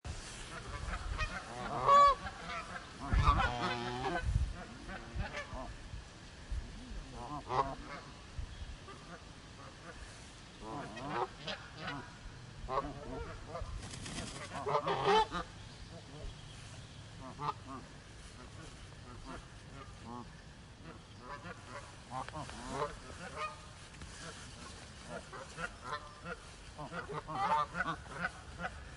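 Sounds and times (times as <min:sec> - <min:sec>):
geese honking: 0:00.2 - 0:05.8, 0:07.1 - 0:08.2, 0:08.8 - 0:16.3, 0:17.2 - 0:28.9.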